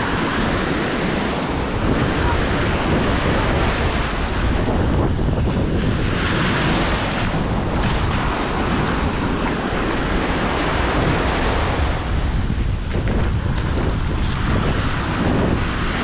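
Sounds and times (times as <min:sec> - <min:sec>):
waves breaking on beach: 0:00.0 - 0:16.0
wind buffeting microphone: 0:00.0 - 0:16.0.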